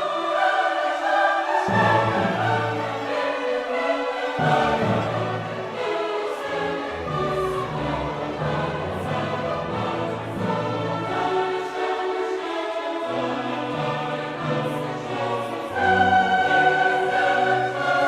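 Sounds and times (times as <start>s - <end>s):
choral music with orchestra: 0.0s - 18.0s.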